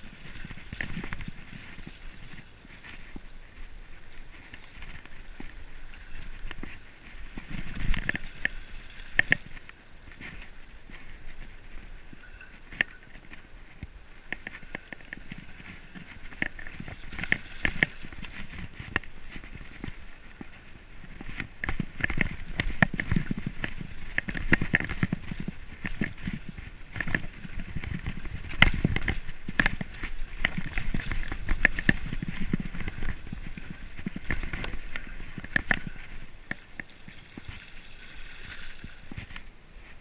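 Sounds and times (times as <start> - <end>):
bike rattling and clicking: 0.0 - 40.0
bike tyres rolling over dirt: 0.0 - 40.0.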